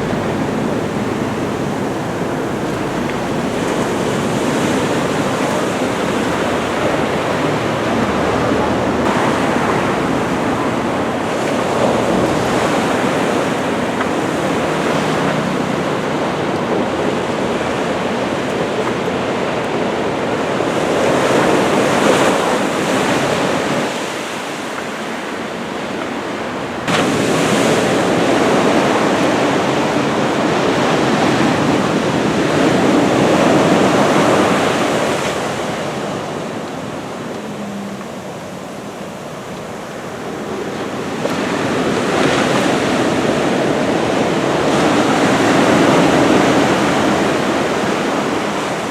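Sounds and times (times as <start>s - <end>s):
ocean surf breaking: 0.0s - 48.9s
wind noise on microphone: 0.0s - 48.9s.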